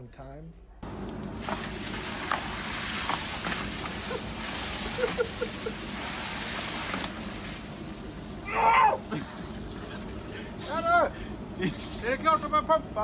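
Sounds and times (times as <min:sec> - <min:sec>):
pump humming: 0:00.8 - 0:13.0
water spraying and rushing: 0:01.2 - 0:12.0.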